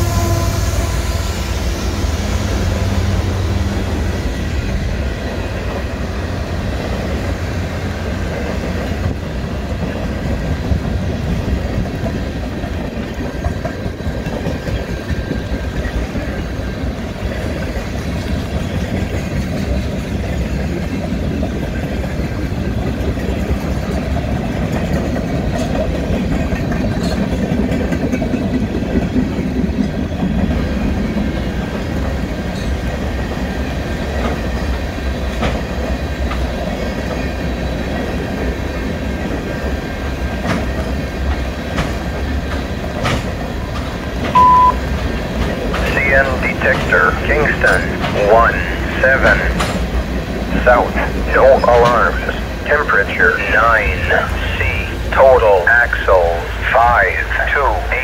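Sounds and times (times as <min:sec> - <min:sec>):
freight cars rolling on rails: 0:01.4 - 0:58.0.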